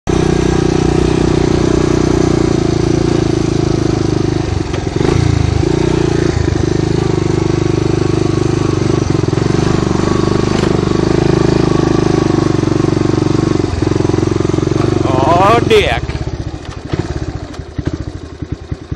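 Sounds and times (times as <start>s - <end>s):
atv engine running: 0.1s - 18.9s.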